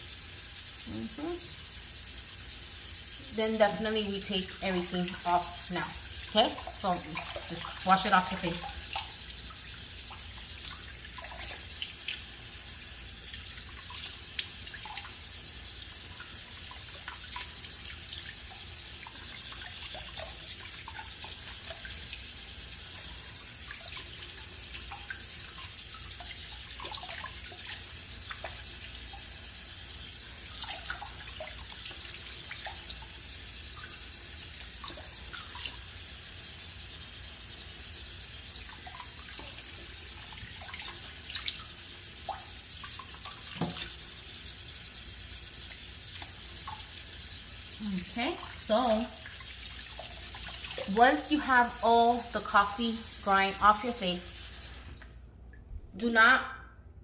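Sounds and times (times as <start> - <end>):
sink tap running: 0.0 - 55.2
water splashing and dripping: 1.0 - 55.6.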